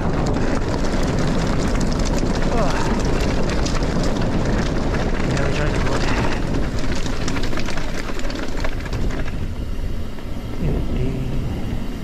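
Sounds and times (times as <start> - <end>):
clicks and rattles from riding: 0.0 - 11.8
wind buffeting microphone: 0.0 - 12.0.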